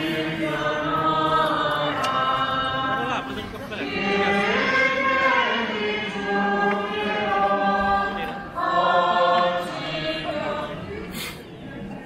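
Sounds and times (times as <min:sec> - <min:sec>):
group singing a hymn: 0:00.0 - 0:11.1.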